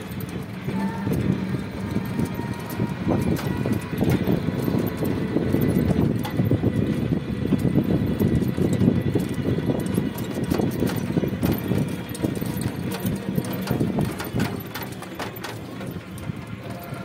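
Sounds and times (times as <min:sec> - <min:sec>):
knocks and rattles: 0:00.0 - 0:17.0
vehicle ride rumble: 0:00.0 - 0:17.0.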